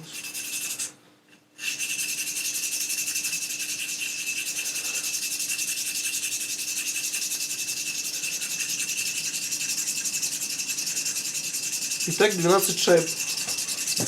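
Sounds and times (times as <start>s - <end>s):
metal scraping on abrasive stone: 1.6s - 14.0s.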